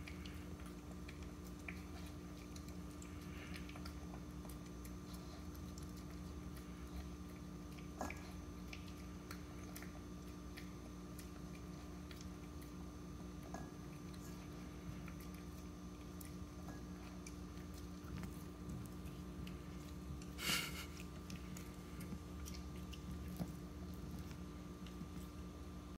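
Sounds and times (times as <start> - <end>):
puppy chewing: 0.0 - 25.9.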